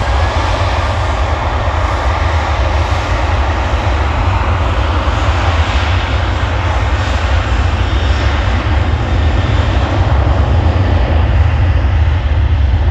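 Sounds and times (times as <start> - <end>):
jet engines roaring: 0.0 - 12.9.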